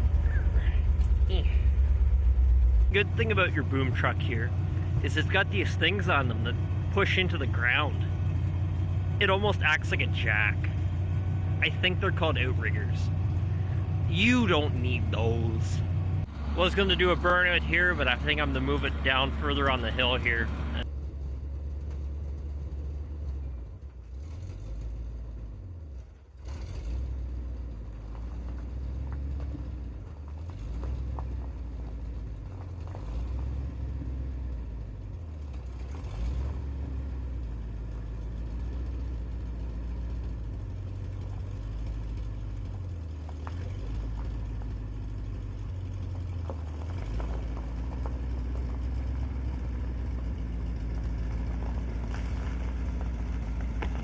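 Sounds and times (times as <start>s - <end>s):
truck engine rumbling: 0.0s - 54.0s.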